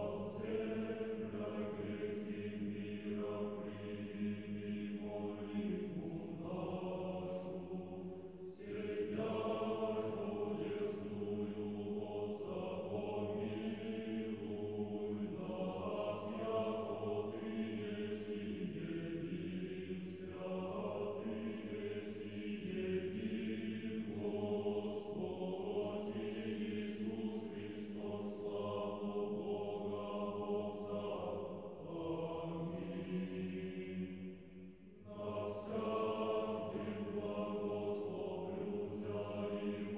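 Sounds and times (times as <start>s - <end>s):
choir chanting: 0.0s - 39.9s.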